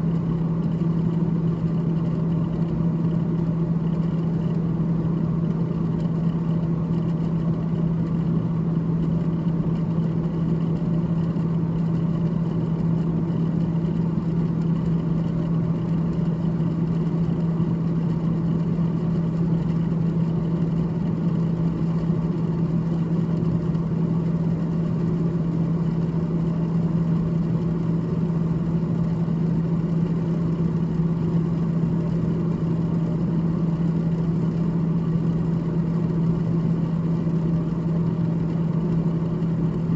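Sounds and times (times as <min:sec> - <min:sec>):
refrigerator fan humming: 0:00.0 - 0:39.9.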